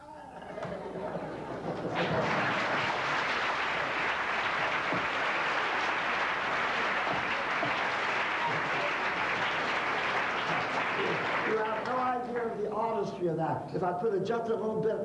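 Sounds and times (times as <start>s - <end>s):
audience applauding: 0.5s - 12.6s.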